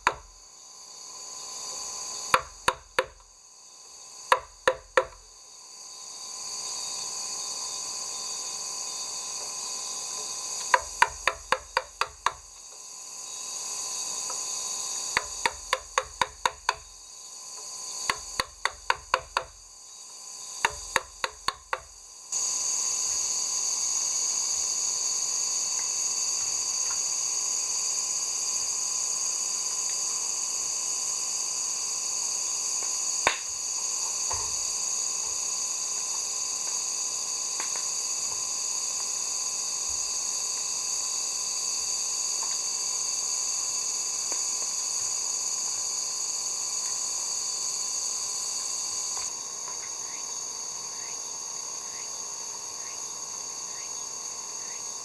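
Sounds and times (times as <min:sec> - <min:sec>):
insects shrilling: 0:00.0 - 0:55.0.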